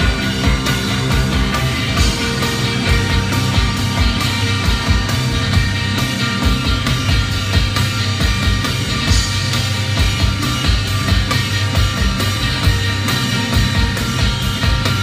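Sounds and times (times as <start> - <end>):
drum beat: 0.0 - 15.0
electric guitar chords: 0.0 - 15.0.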